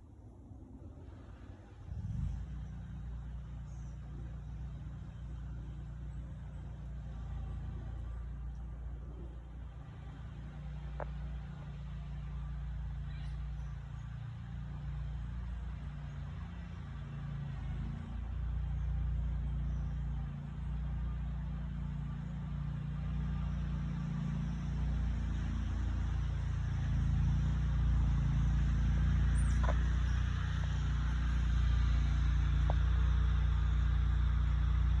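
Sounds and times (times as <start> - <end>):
lawnmower engine running: 1.2 - 35.0.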